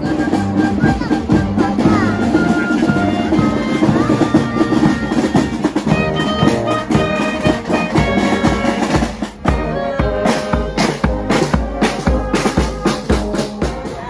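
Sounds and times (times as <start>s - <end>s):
bass drum beats: 0.0s - 14.0s
marching band playing: 0.0s - 14.0s.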